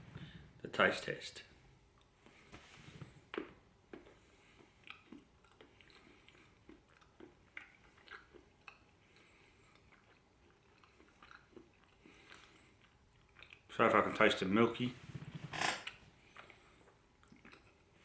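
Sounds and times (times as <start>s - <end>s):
soft chewing clicks: 1.9s - 14.2s, 15.1s - 18.0s.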